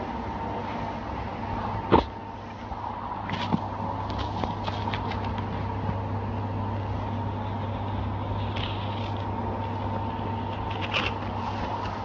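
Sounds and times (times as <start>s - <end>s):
faint high whine: 0.0s - 12.0s
low machine hum: 0.0s - 12.0s.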